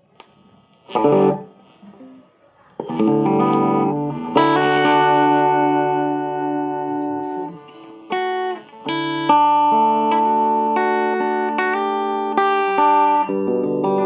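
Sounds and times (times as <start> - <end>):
electric guitar notes ringing: 0.8 - 1.5, 2.8 - 14.0.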